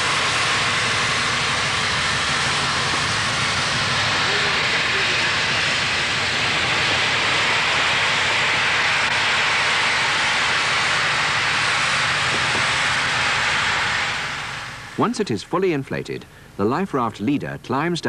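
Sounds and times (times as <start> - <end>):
gas rushing hiss: 0.0 - 15.2.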